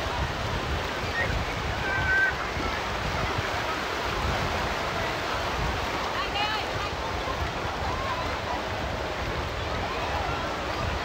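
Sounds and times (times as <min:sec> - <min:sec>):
sea surf washing on beach: 0:00.0 - 0:11.0.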